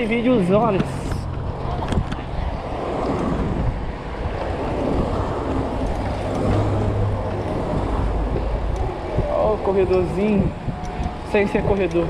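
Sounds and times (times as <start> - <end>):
low road rumble: 0.0 - 12.0
wind rushing over microphone: 0.0 - 12.0.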